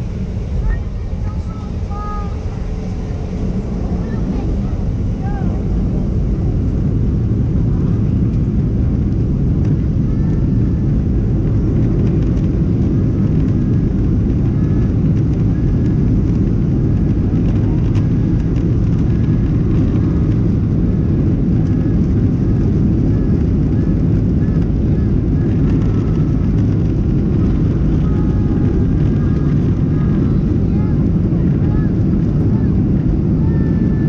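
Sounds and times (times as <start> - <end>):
jet engines rumbling in cabin: 0.0 - 34.0.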